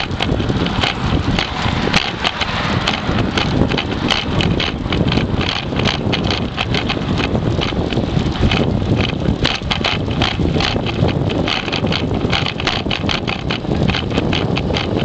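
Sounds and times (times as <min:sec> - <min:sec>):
clicks and rattles: 0:00.0 - 0:15.0
handlebar vibration noise: 0:00.0 - 0:15.0.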